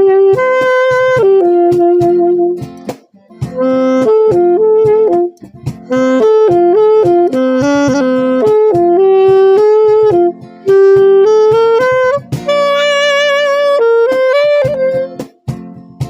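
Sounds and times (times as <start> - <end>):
backing track with guitar and beat: 0.0 - 16.0
saxophone melody: 0.0 - 16.0.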